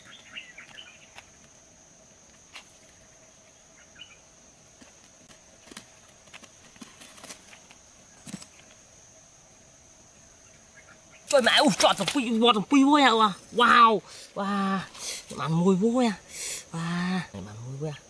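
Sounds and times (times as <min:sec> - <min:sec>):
faint insect drone: 0:00.0 - 0:18.0.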